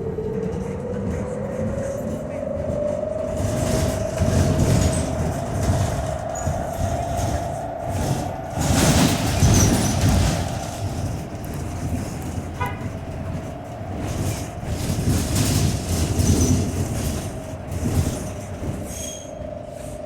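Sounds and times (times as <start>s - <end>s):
road rumble: 0.0s - 20.0s.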